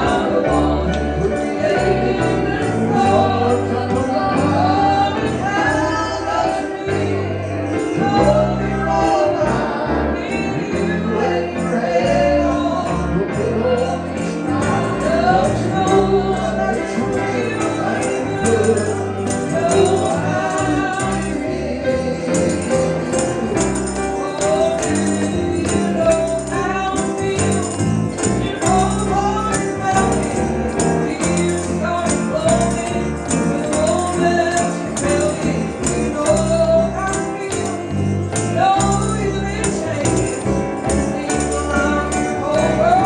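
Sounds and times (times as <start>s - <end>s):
band playing: 0.0s - 43.0s
person singing: 0.0s - 43.0s
tambourine: 0.0s - 43.0s.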